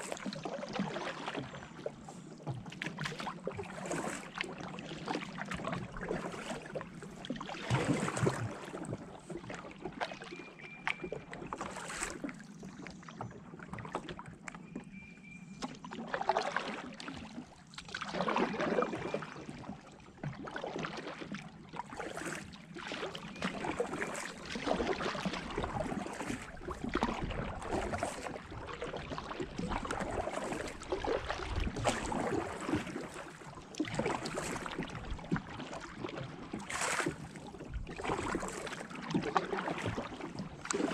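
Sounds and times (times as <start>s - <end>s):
paddle strokes splashing water: 0.0s - 40.9s.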